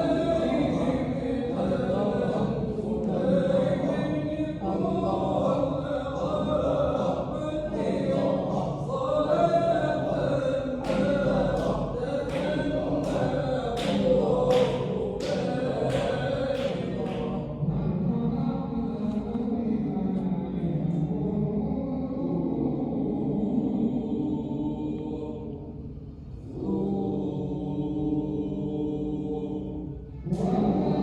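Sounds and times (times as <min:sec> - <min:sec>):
group chanting: 0:00.0 - 0:31.0.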